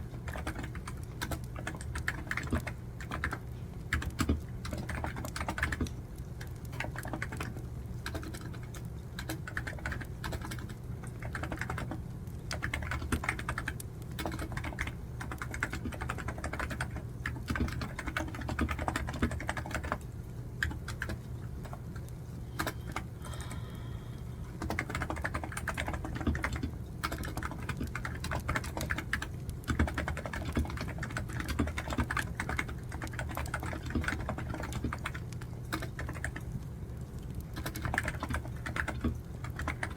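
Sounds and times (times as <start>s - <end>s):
typing on a computer keyboard: 0.0s - 23.8s, 24.5s - 39.9s
wood fire crackling ambience: 0.0s - 39.9s.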